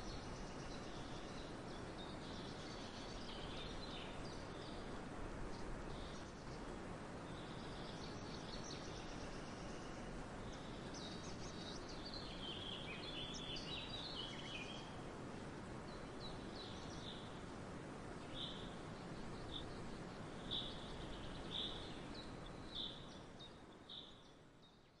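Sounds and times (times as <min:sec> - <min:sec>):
small birds chirping: 0:00.0 - 0:15.0, 0:15.8 - 0:25.0
steady outdoor hiss: 0:00.0 - 0:25.0.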